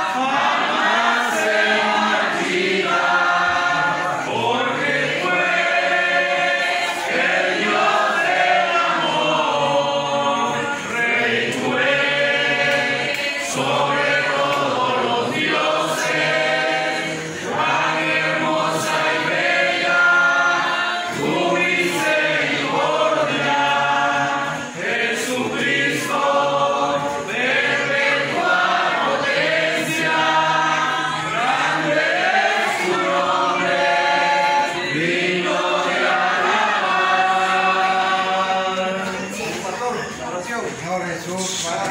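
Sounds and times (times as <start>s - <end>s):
congregation singing a hymn: 0.0s - 41.9s.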